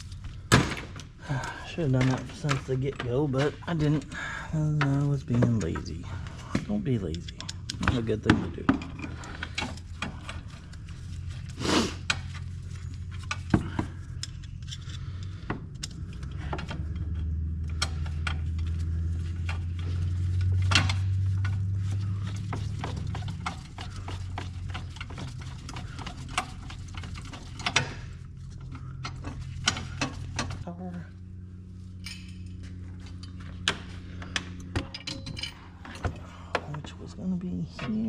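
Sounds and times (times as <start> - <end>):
steady low hum: 0.0 - 38.0
hand tools clicking and knocking: 0.8 - 11.2, 12.0 - 30.6, 32.0 - 37.1.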